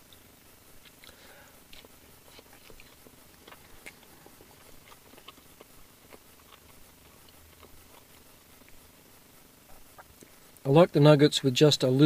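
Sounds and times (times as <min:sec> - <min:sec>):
faint chewing: 0:00.0 - 0:10.7.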